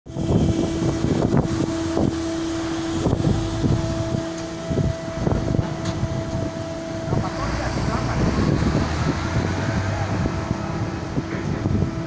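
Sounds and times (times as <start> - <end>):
machinery whining: 0.1 - 12.0
wind buffeting microphone: 0.1 - 12.0.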